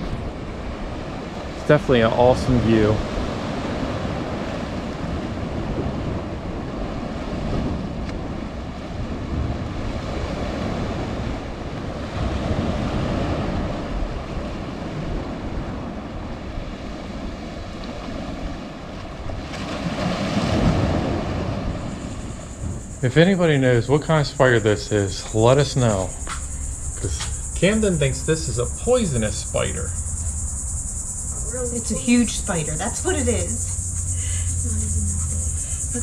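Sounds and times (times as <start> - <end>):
waves splashing on rocks: 0.0 - 29.8
wind buffeting microphone: 0.0 - 36.0.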